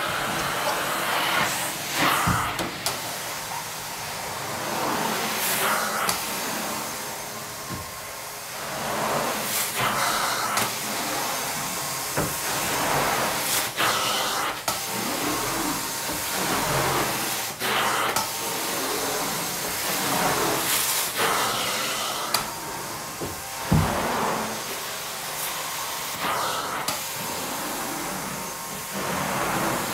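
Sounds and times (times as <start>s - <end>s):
carpet extractor suction hiss: 0.0s - 29.9s.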